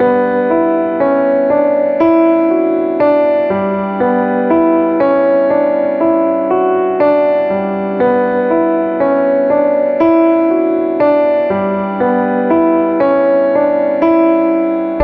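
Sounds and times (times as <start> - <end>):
slow electric piano notes: 0.0 - 15.0.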